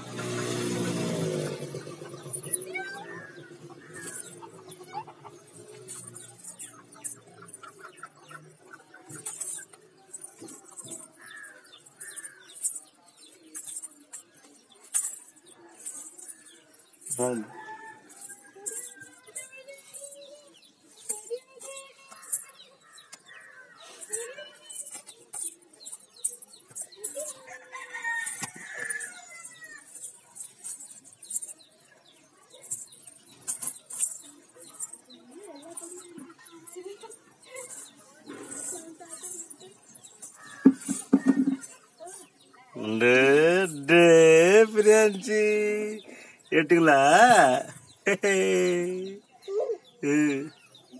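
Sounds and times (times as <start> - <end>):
birds chirping: 0.0 - 50.9
high-pitched rustle or jingle: 1.3 - 50.9.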